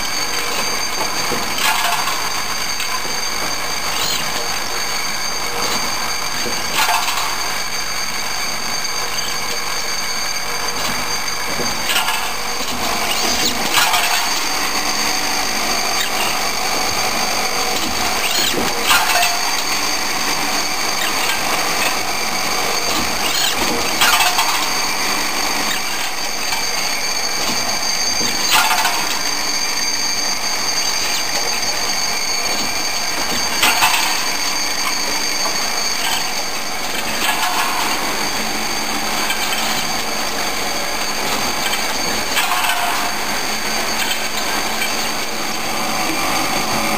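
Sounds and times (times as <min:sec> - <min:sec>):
high-pitched machine whine: 0:00.0 - 0:46.9.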